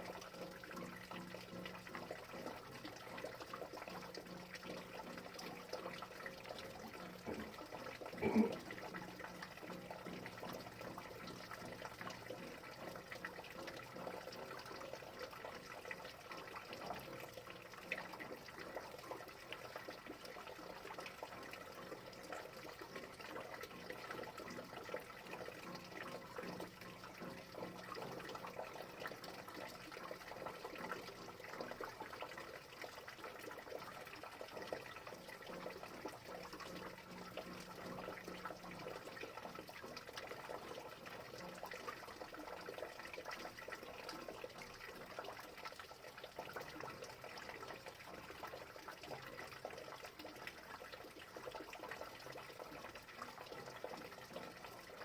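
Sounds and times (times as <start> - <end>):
steady rain with dripping drops: 0.0 - 55.0.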